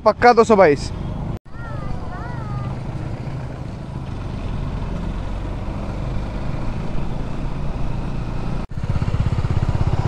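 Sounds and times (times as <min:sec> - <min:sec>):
wind and road noise: 0:00.0 - 0:10.0
motorcycle engines running: 0:00.5 - 0:10.0.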